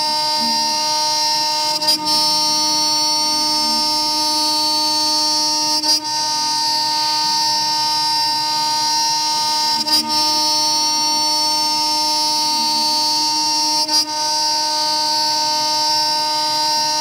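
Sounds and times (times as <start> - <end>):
milling spindle high-pitched whine: 0.0 - 17.0.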